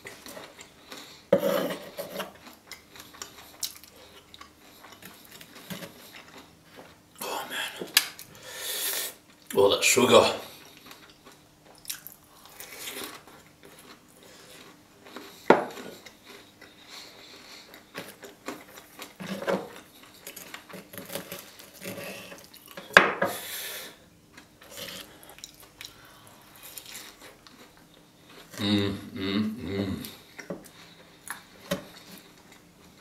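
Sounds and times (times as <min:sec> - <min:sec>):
soft eating sounds: 0:00.0 - 0:33.0.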